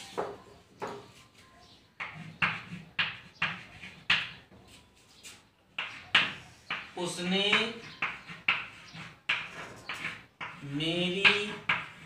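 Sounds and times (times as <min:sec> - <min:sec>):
chalk scratching on blackboard: 0:02.0 - 0:12.0.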